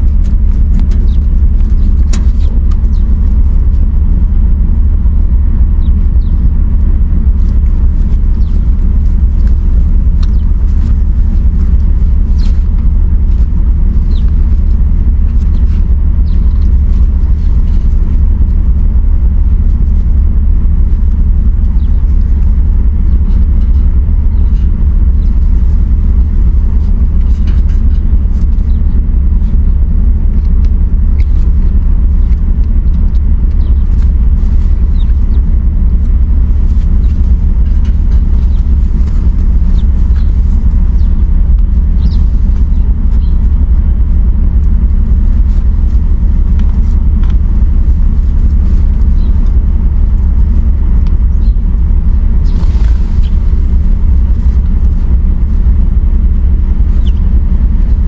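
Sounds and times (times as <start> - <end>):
loud low rumble: 0.0 - 58.0.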